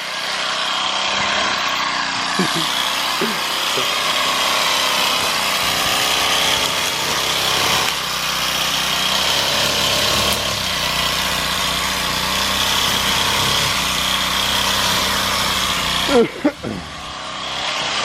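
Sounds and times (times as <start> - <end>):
string trimmer running: 0.0 - 18.0.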